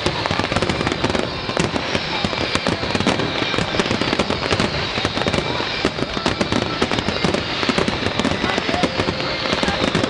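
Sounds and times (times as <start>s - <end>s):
firework bangs and crackles: 0.0s - 10.0s.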